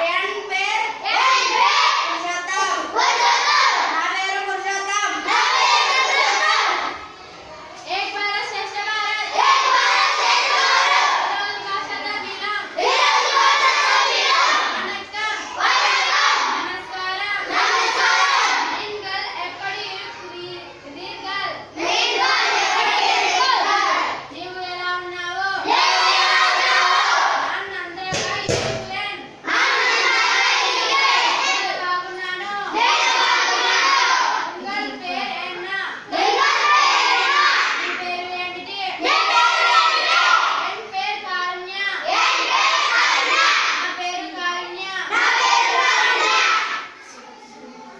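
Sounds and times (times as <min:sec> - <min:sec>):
children chanting: 0:00.9 - 0:47.9.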